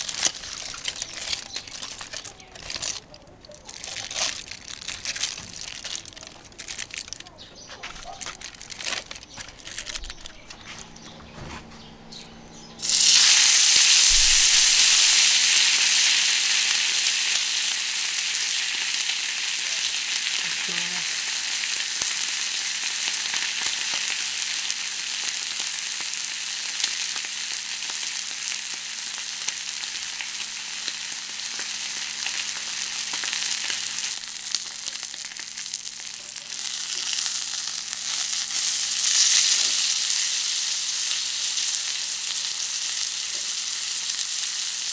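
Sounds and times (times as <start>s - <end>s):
steak sizzling on a griddle: 0.0s - 5.6s, 12.8s - 44.9s.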